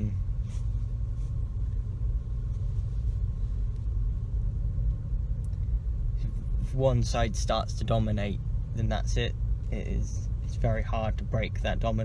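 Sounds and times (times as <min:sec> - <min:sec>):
car engine running in cabin: 0:00.0 - 0:12.0.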